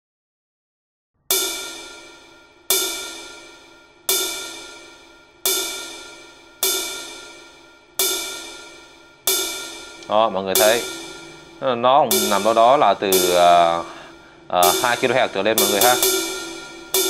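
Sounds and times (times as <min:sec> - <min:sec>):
cymbal hits: 0:01.3 - 0:17.0.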